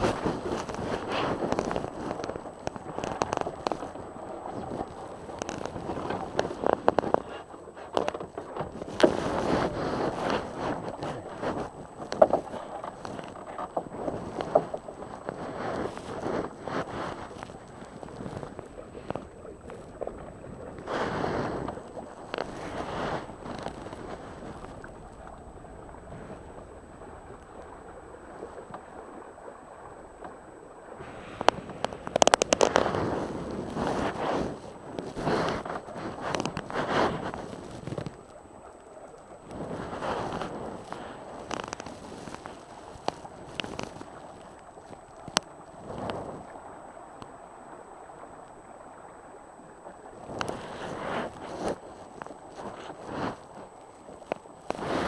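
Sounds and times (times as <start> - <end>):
wind noise on microphone: 0.0 - 30.2, 30.9 - 38.7, 39.3 - 47.0, 49.9 - 55.0
water lapping against a hull: 0.0 - 55.0.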